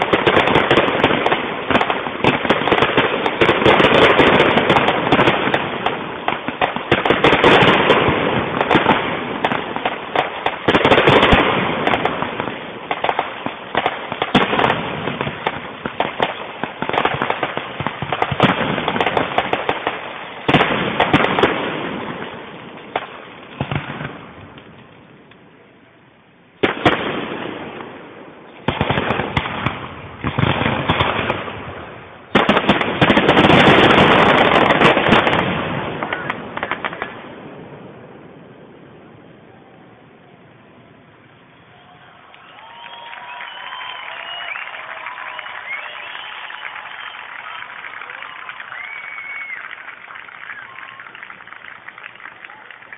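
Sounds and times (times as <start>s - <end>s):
fireworks crackling and banging: 0.0s - 52.9s.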